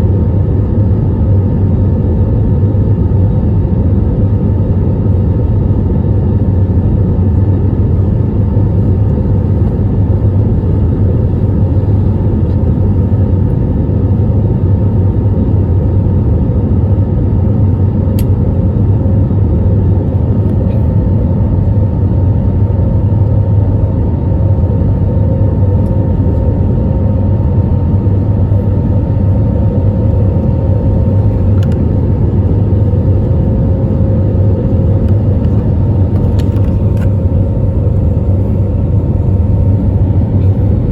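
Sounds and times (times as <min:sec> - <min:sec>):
airplane cabin engine rumble: 0:00.0 - 0:40.9
engine hum: 0:00.0 - 0:40.9.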